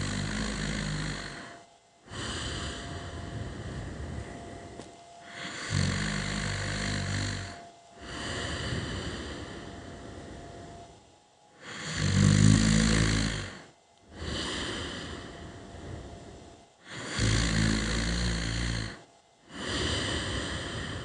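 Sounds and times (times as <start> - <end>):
person snoring: 0.0 - 10.2, 11.6 - 21.0.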